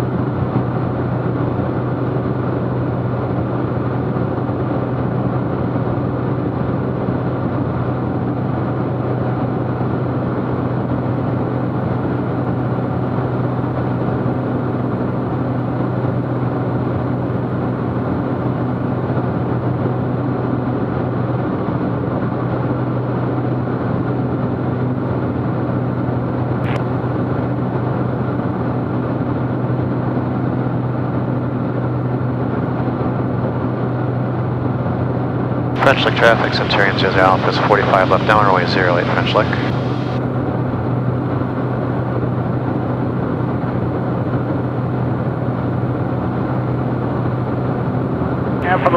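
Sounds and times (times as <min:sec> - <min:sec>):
airplane engine drone in cabin: 0:00.0 - 0:48.9.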